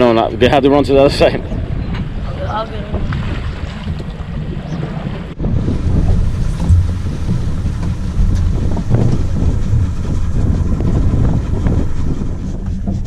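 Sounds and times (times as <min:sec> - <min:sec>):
boat motors rumbling: 0:00.0 - 0:13.0
hull on water: 0:00.0 - 0:13.0
wind buffeting microphone: 0:00.0 - 0:13.0.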